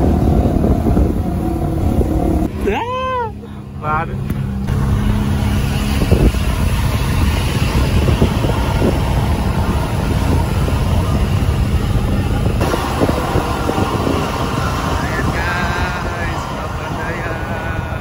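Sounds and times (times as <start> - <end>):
car engine hum: 0.0 - 18.0
road and wind noise: 0.0 - 18.0.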